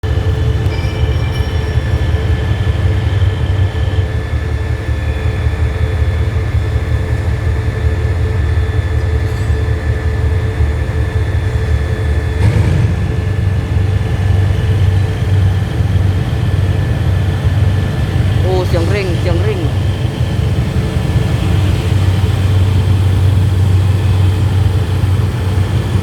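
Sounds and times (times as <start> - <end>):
locomotive engine rumbling: 0.0 - 26.0.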